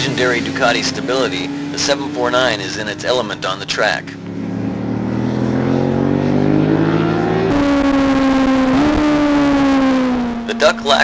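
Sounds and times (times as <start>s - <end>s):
high-revving engine: 0.0s - 11.0s
motorcycle engine accelerating: 0.0s - 11.0s.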